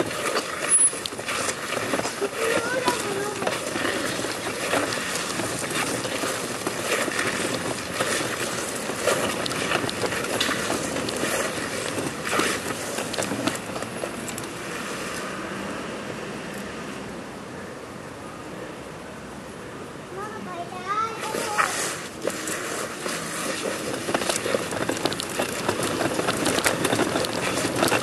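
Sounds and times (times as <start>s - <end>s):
clothing and shoes scraping on stone: 0.0s - 15.5s, 20.9s - 28.0s.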